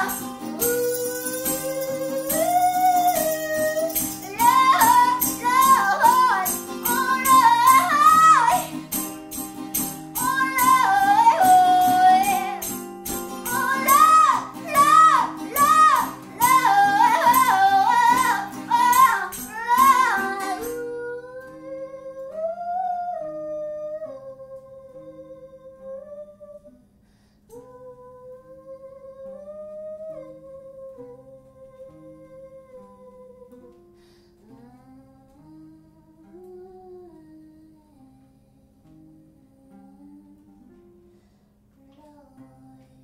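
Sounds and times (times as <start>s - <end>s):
person singing: 0.0s - 26.8s, 27.5s - 33.8s, 34.4s - 40.8s
guitar: 0.0s - 43.0s.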